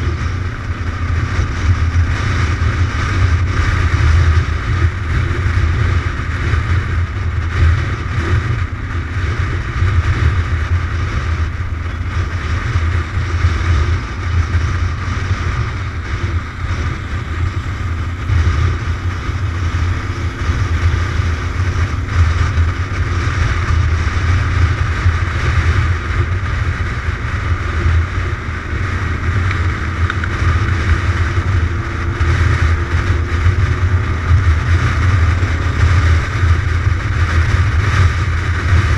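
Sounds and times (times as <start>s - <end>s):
motorcycle engine rumble: 0.0s - 38.9s
wind rush on microphone: 0.0s - 38.9s.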